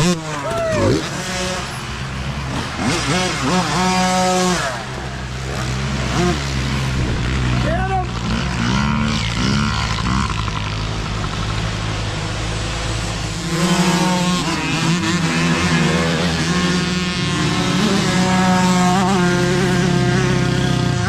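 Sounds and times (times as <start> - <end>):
dirt bike engines buzzing and revving: 0.0 - 21.0.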